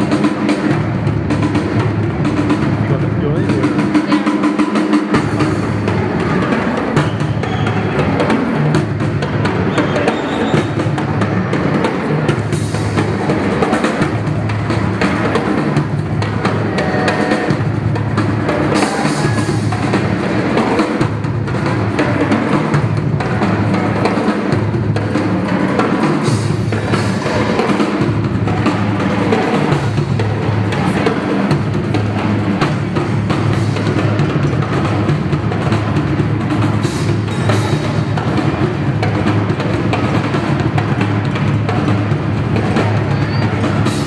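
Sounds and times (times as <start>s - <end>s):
drum kit playing a busy beat: 0.0s - 44.0s.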